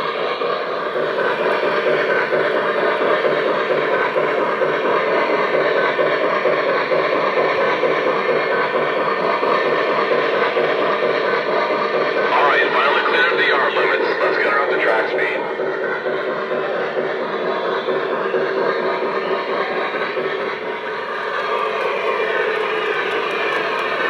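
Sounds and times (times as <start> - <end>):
model train wheels on track: 0.0 - 24.0
steam locomotive sound effects: 0.0 - 24.0.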